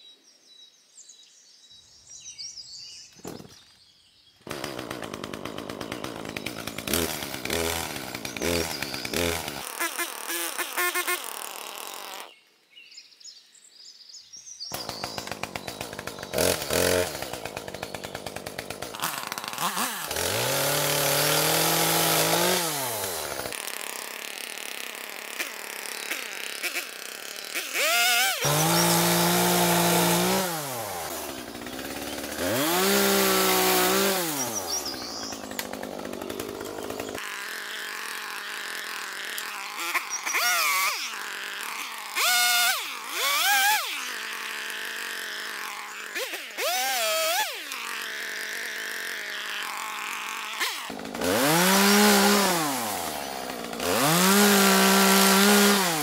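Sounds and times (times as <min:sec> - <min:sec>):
chainsaw revving and cutting wood: 0:04.4 - 0:12.4, 0:14.7 - 0:56.0.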